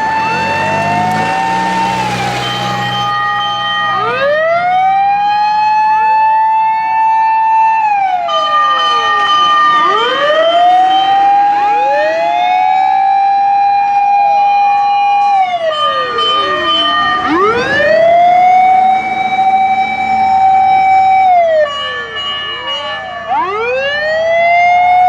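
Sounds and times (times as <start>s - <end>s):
emergency vehicle siren wailing: 0.0s - 25.0s.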